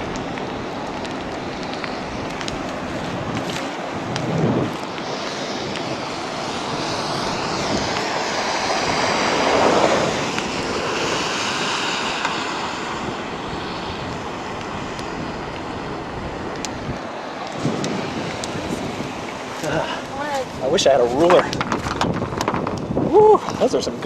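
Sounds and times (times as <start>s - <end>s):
heavy rain and hail on car: 0.0s - 23.1s.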